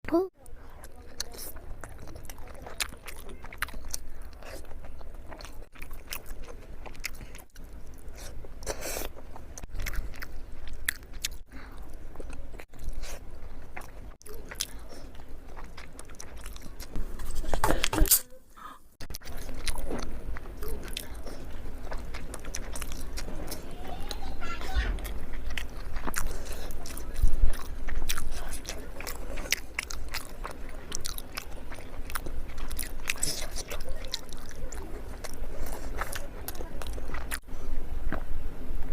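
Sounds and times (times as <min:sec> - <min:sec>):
person chewing food: 0:00.5 - 0:18.2, 0:19.0 - 0:38.3.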